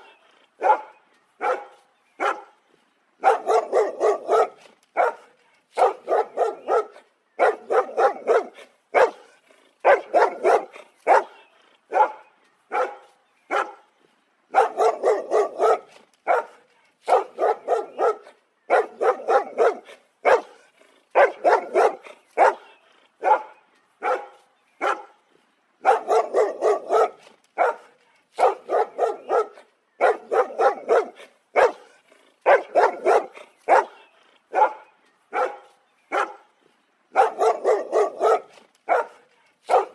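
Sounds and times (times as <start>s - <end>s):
dog barking: 0.6s - 2.6s, 3.2s - 13.8s, 14.5s - 25.2s, 25.8s - 36.5s, 37.1s - 39.9s.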